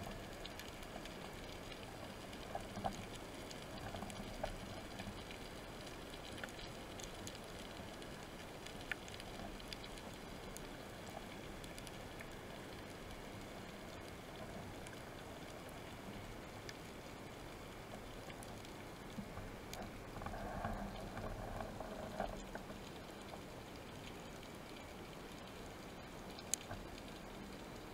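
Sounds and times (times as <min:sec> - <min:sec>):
underwater hiss with tiny crackles: 0:00.0 - 0:27.9.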